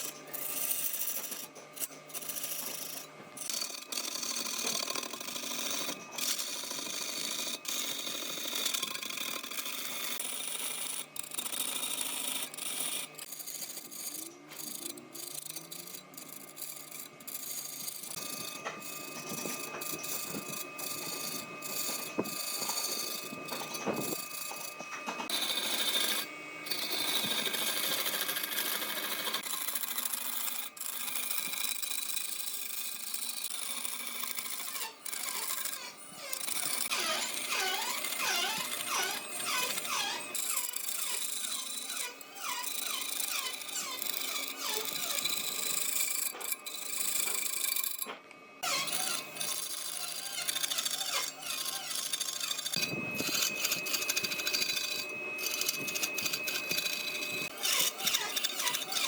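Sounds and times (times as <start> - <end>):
woodworking machine noise: 0.0 - 59.0.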